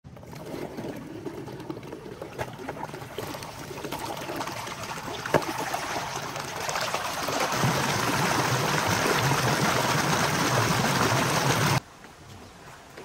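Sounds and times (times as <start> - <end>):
water trickling and splashing: 0.1 - 11.8.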